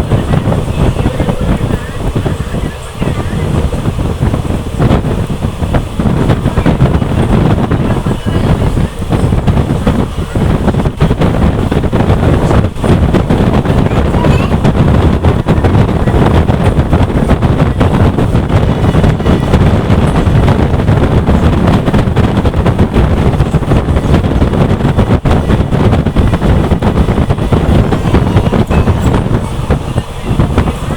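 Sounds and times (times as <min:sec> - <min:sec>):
moving train running noise: 0:00.0 - 0:30.9
wind buffeting microphone: 0:00.0 - 0:30.9.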